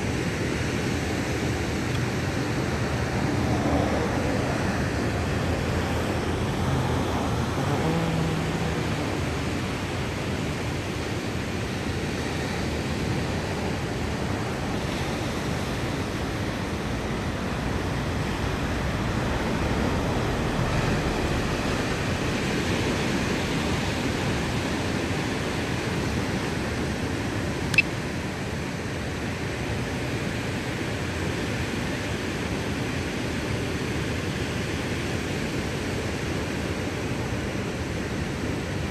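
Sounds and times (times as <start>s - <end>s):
ocean surf: 0.0s - 38.9s
sea wind: 0.0s - 38.9s.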